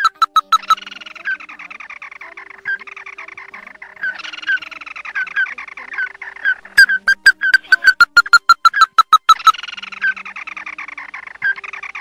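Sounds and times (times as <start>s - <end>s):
chorus of chattering crake calls: 0.0s - 12.0s.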